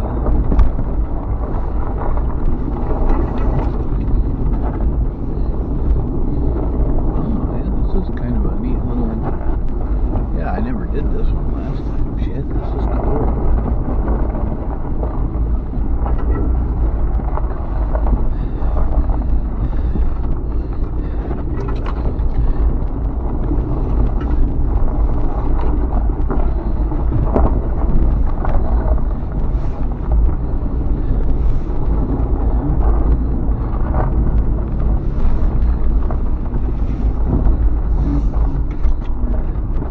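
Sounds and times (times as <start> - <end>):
engine and tyres rumbling: 0.0 - 39.9.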